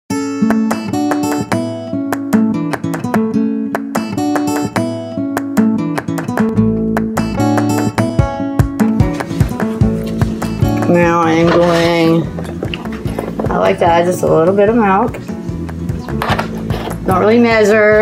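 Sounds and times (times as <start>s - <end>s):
acoustic guitar plucking and strumming: 0.1s - 18.0s.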